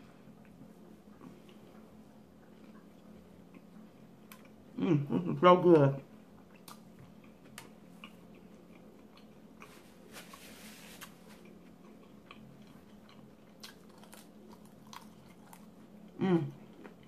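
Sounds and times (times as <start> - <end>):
person chewing food: 0.0 - 4.8, 6.1 - 17.0
low steady hum: 0.0 - 17.0.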